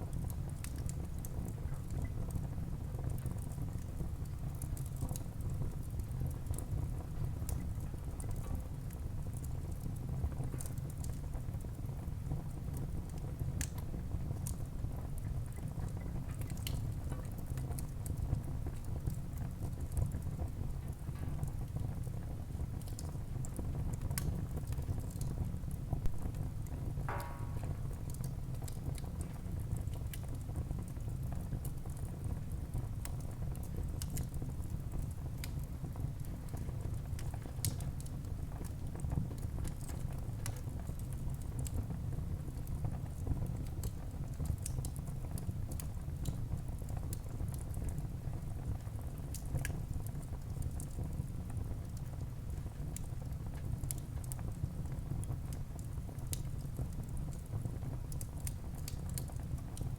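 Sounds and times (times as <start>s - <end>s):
low fire rumble: 0.0s - 59.9s
wood fire crackling and popping: 0.0s - 59.9s.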